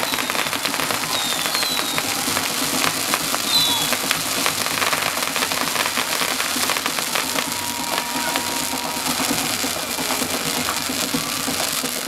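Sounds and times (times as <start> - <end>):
fireworks fountains crackling hiss: 0.0 - 12.0.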